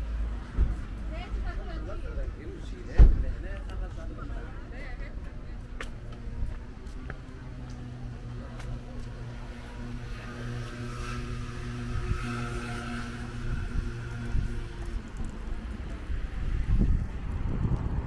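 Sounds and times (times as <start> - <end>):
street noise: 0.0 - 18.0
vehicle engine humming: 3.4 - 18.0.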